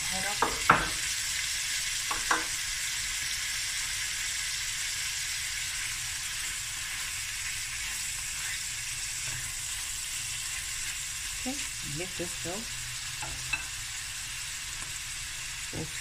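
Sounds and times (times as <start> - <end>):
fish sizzling in a pan: 0.0 - 16.0.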